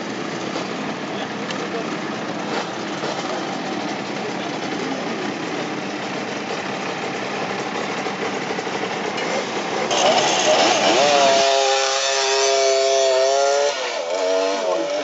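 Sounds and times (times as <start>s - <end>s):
motorcycle engines idling: 0.0s - 15.0s.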